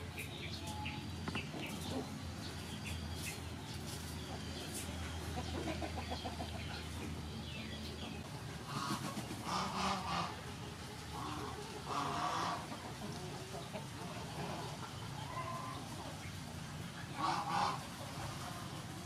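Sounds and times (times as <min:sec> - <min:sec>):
chickens clucking: 0:00.0 - 0:19.0
small birds chirping: 0:00.0 - 0:19.0.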